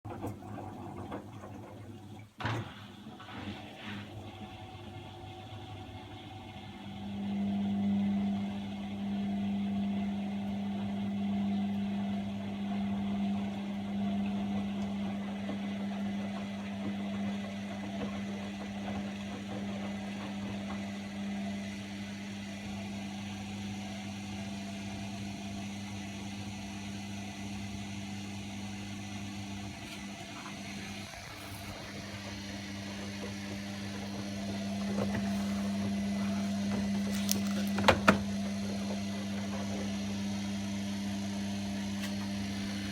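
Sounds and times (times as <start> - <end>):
washing machine motor hum: 0.0 - 42.9.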